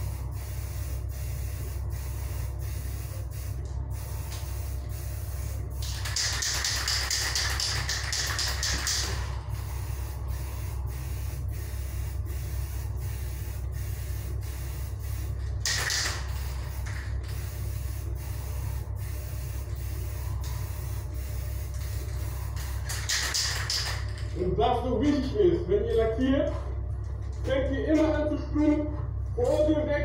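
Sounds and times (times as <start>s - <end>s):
aerosol spray can hissing: 0.0s - 24.0s
steady low hum: 0.0s - 30.0s.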